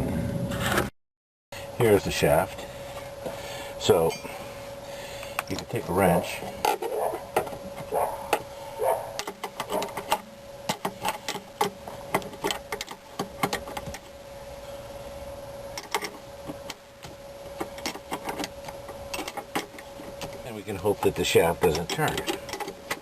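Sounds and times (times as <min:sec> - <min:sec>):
faint steady hum: 0:00.0 - 0:00.9, 0:01.6 - 0:23.0.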